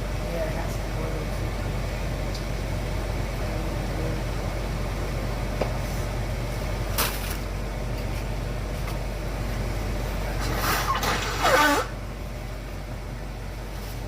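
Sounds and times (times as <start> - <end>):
steady kitchen hum: 0.0 - 14.0.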